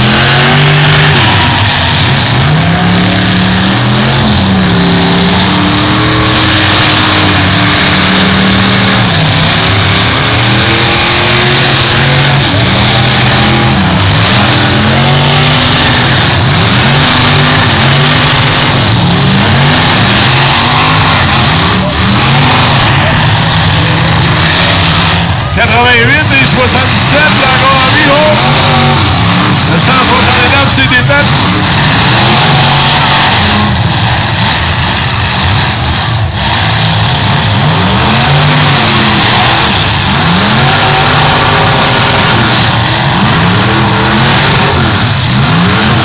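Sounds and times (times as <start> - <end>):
several car engines revving: 0.0 - 46.0.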